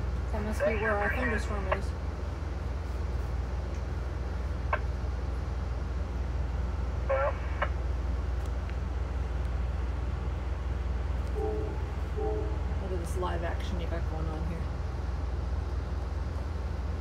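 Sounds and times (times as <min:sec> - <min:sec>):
train car rumble: 0:00.0 - 0:17.0.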